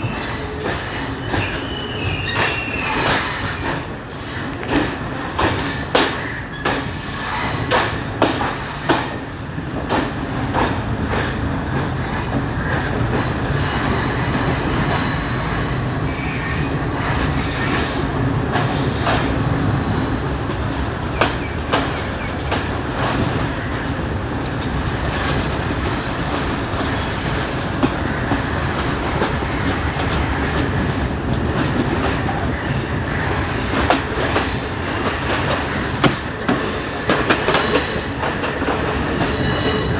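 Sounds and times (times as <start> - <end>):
train rumble and rattle: 0.0 - 39.9.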